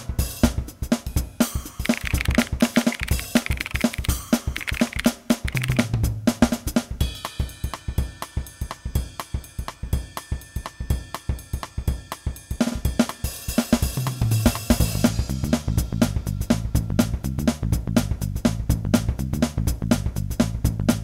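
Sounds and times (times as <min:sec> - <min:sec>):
background music with drum beat: 0:00.0 - 0:21.0.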